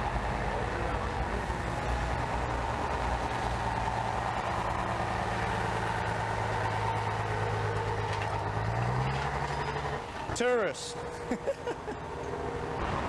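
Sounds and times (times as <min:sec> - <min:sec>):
heavy vehicle engine idling: 0:00.0 - 0:12.9.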